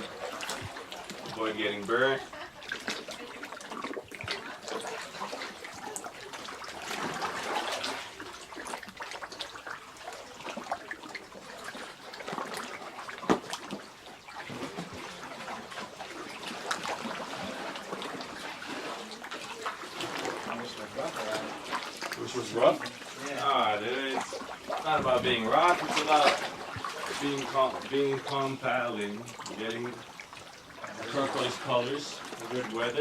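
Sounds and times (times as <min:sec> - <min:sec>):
kayak paddles dipping into water: 0:00.0 - 0:33.0
water dripping and splashing: 0:00.0 - 0:33.0.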